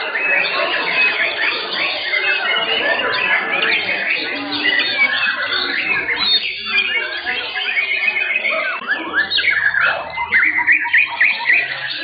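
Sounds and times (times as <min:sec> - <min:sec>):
birds singing whistles and trills: 0:00.0 - 0:12.0.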